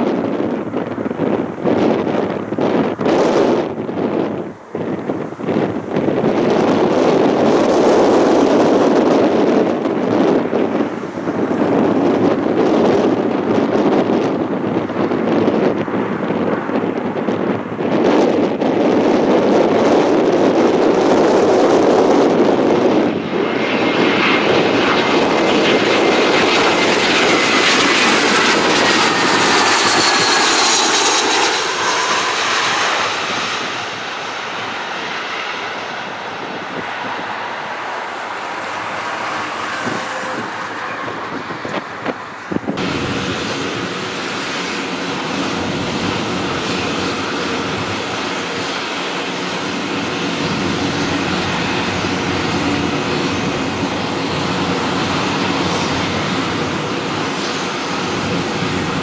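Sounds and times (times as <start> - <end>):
high fan whine: 0.0 - 59.0
jet engines roaring: 0.0 - 59.0.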